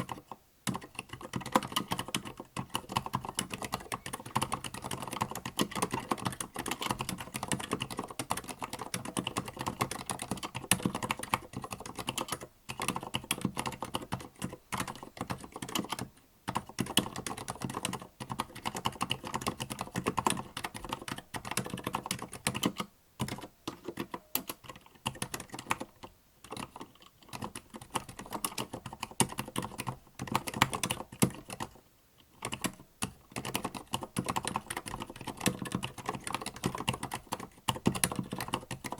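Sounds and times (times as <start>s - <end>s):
soft mechanical keyboard typing: 0.0s - 38.9s.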